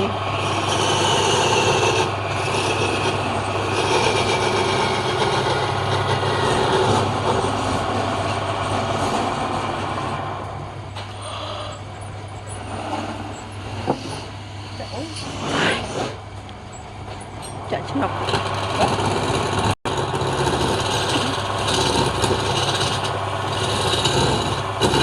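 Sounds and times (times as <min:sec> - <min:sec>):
woodworking machine cutting wood: 0:00.0 - 0:11.8, 0:12.5 - 0:16.2, 0:17.8 - 0:25.0.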